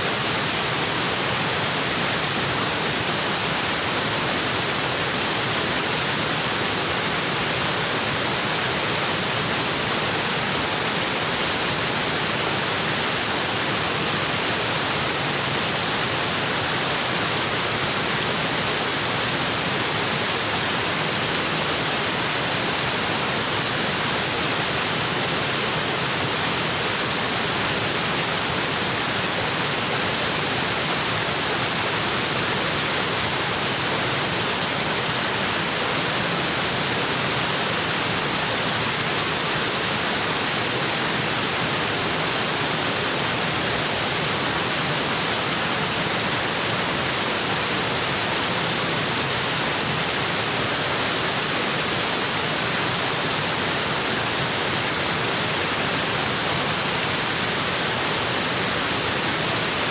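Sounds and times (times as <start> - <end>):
waterfall onto rocks: 0.0 - 59.9.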